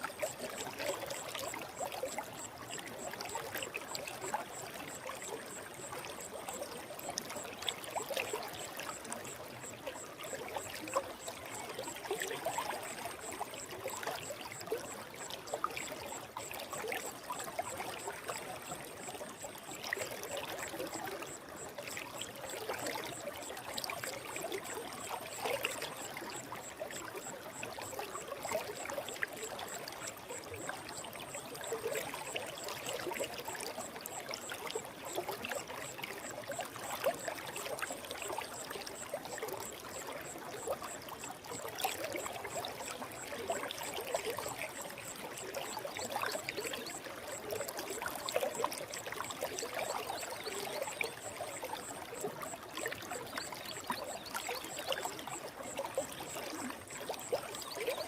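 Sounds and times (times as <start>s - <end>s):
stream babbling and trickling: 0.0s - 58.0s.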